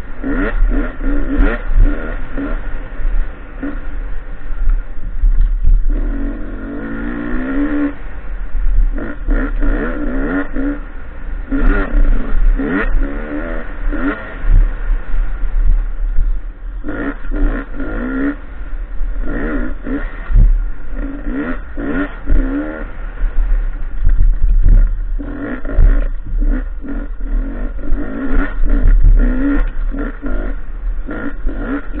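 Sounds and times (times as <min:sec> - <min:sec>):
dirt bike engine revving: 0:00.0 - 0:32.0
wind rumble on microphone: 0:00.0 - 0:32.0.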